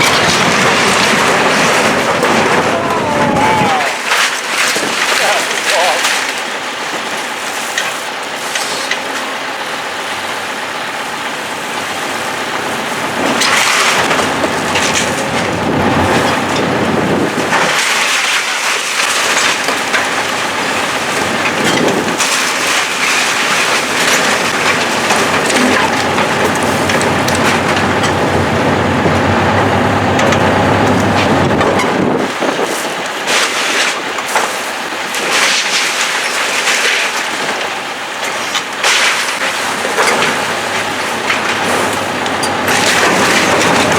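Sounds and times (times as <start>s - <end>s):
debris crunching and crashing: 0.0s - 9.6s, 11.2s - 43.9s
heavy machinery noise: 0.0s - 43.9s.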